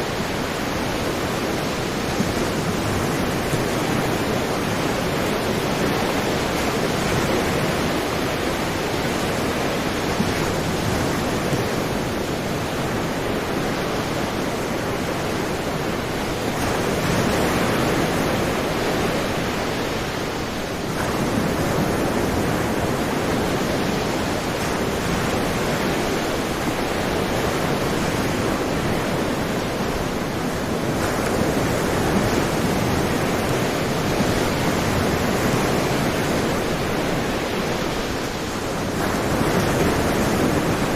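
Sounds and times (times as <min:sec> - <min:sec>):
sea waves washing onto shore: 0:00.0 - 0:40.9.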